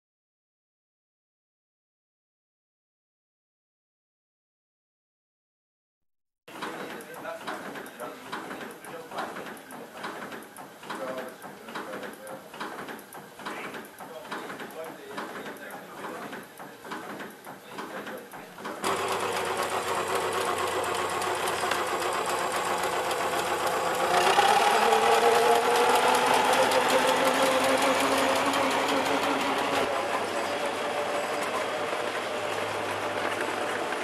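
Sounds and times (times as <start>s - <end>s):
small steam engine clattering: 6.5s - 34.0s.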